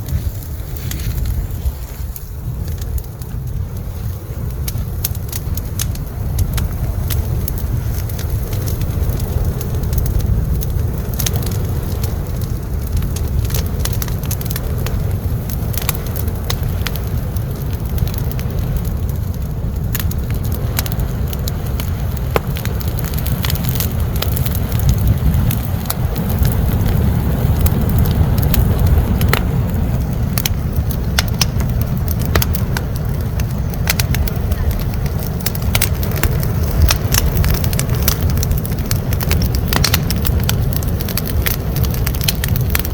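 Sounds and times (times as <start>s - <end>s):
bonfire rumble: 0.0s - 42.9s
burning wood crackling and popping: 0.0s - 42.9s.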